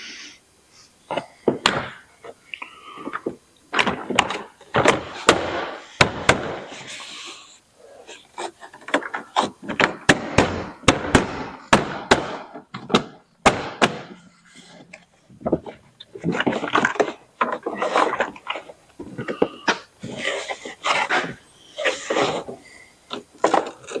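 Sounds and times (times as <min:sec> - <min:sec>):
handling noise: 0:01.1 - 0:24.0.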